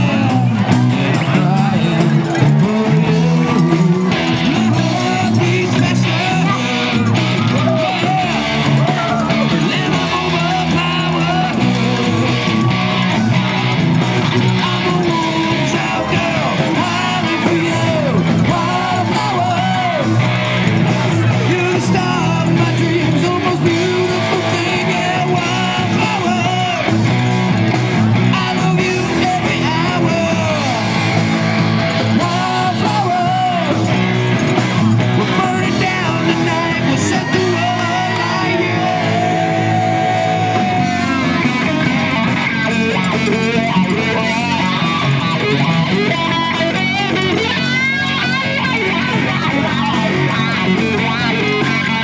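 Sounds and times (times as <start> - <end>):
person singing: 0.0 - 27.6, 28.2 - 52.0
bass guitar: 0.0 - 52.0
electric guitars: 0.0 - 52.0.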